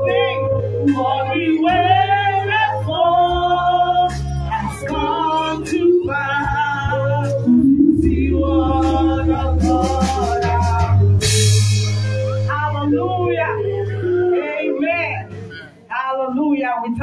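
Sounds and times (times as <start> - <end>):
woman singing into a microphone: 0.0 - 11.2, 12.5 - 17.0.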